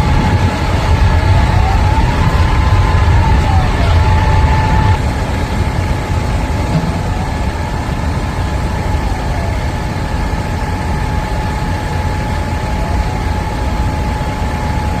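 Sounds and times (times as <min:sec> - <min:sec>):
distant siren wailing: 0:00.0 - 0:15.0
heavy engine idling: 0:00.0 - 0:15.0
high whine: 0:00.0 - 0:15.0.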